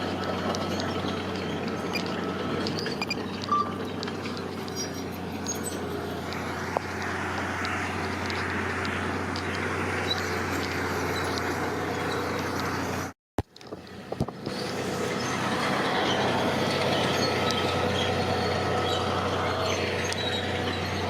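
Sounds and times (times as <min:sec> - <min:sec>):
heavy machine engine humming: 0:00.0 - 0:21.0.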